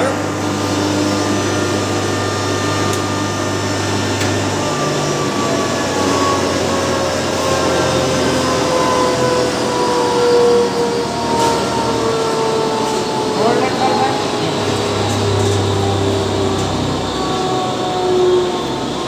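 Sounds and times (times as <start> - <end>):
grinding mill running: 0.0 - 19.0.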